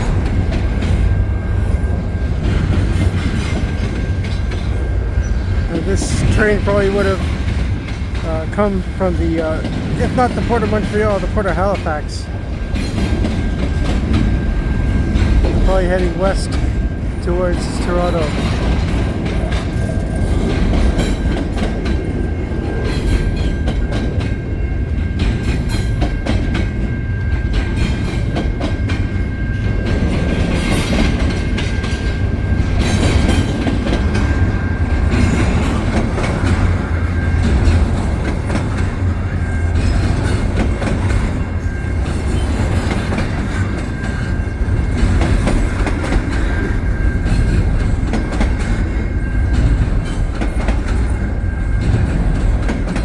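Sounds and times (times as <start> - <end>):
clickety-clack over rail joints: 0.0 - 53.0
freight train wheels rumbling on rails: 0.0 - 53.0.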